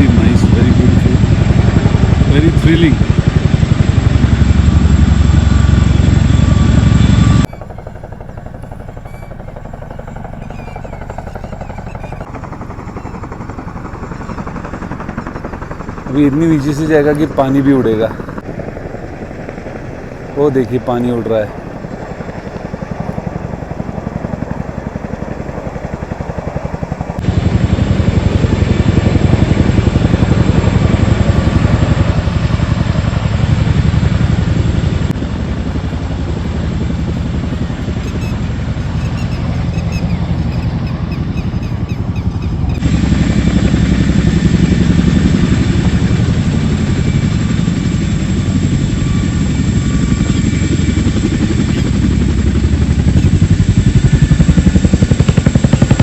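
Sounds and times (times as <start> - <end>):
helicopter rotor beating: 0.0 - 56.0.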